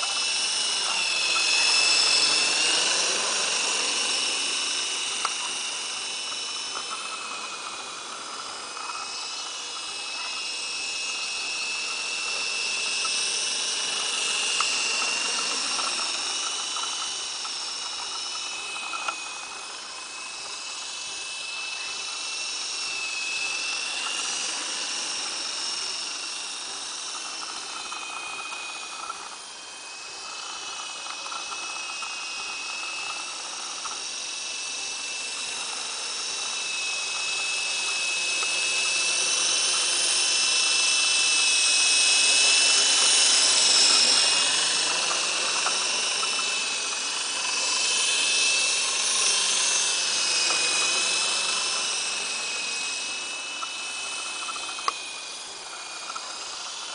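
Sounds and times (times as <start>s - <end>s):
rc helicopter motor whine: 0.0s - 56.9s
rotor hiss: 0.0s - 56.9s.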